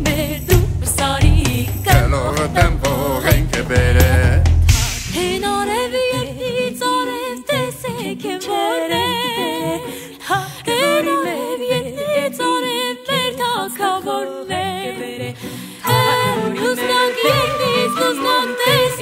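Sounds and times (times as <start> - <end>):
unaccompanied singing with vibrato: 0.0 - 19.0.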